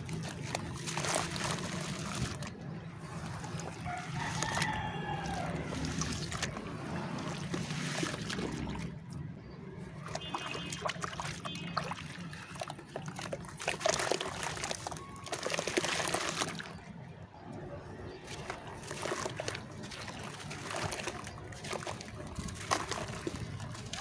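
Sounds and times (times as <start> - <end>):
dirt crumbling in water: 0.0 - 16.9, 18.0 - 24.0
water trickling: 0.0 - 17.0, 18.1 - 24.0.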